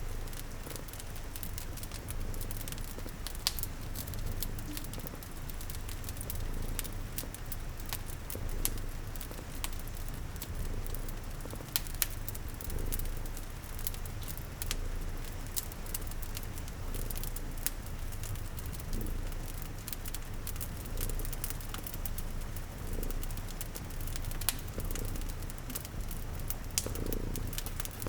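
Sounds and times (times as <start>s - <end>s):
cat purring: 0.0s - 28.0s
wood fire crackling and popping: 0.0s - 28.0s.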